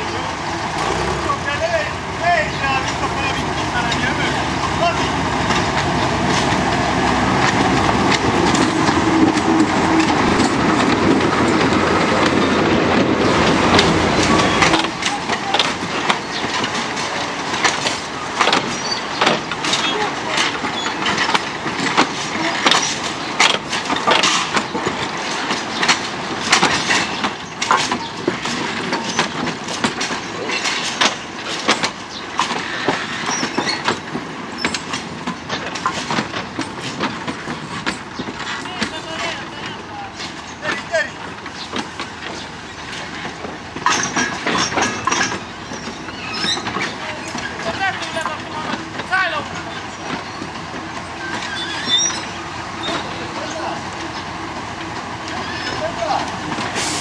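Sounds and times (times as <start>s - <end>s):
diesel locomotive engine: 0.0s - 57.0s
train wheels clicking over rail joints: 0.0s - 57.0s.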